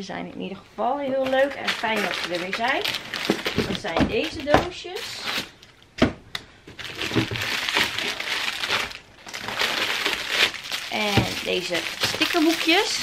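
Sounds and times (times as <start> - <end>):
cellophane crinkling: 1.2 - 5.6, 6.7 - 13.0.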